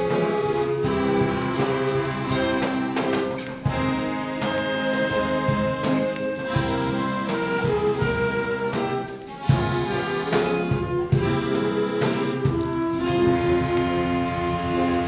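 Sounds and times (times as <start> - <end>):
folk ensemble playing dance tune: 0.0 - 15.0.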